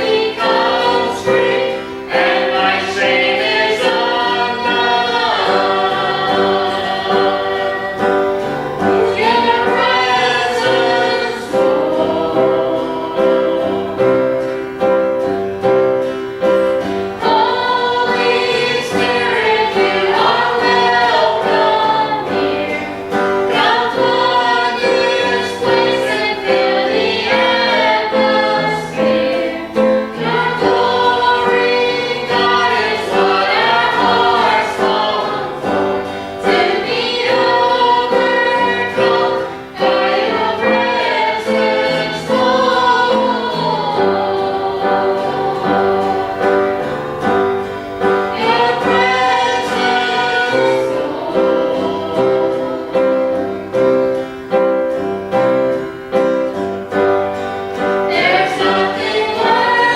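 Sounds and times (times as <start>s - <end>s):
group singing worship chorus: 0.0s - 59.9s
instrumental accompaniment: 0.0s - 59.9s.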